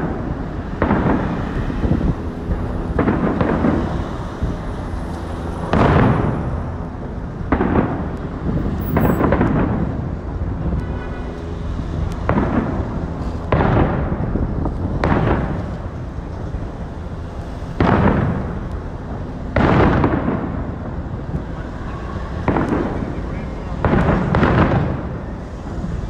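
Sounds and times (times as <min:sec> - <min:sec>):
fireworks booming: 0:00.0 - 0:26.0.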